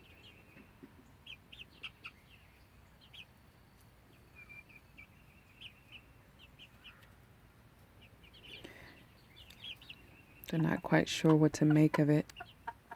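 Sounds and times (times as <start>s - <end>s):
hens chirping and peeping: 0.0s - 12.9s.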